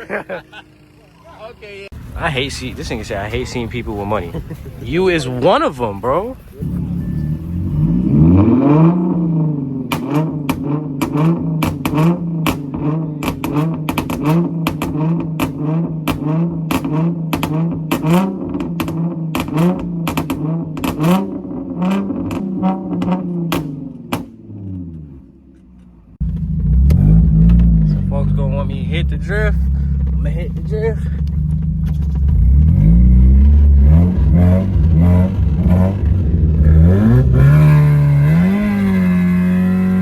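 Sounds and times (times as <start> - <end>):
car engine revving: 0.0 - 40.0
exhaust pops: 5.4 - 40.0.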